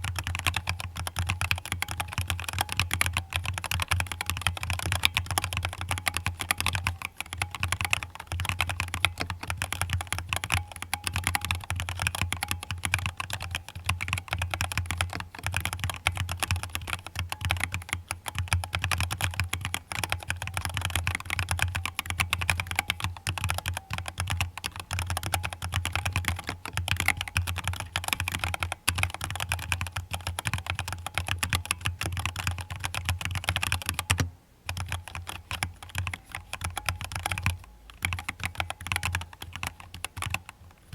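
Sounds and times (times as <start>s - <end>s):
mechanical keyboard typing: 0.0s - 40.8s.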